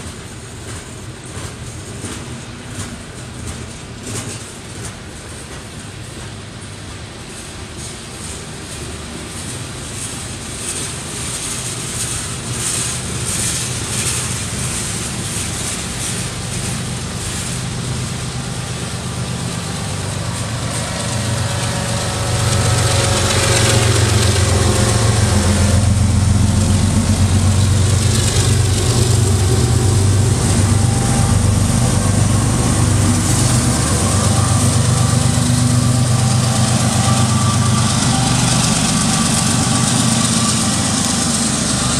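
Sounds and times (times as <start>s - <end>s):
diesel locomotive engine hum: 0.0s - 41.9s
train cars clicking over rails: 0.0s - 41.9s.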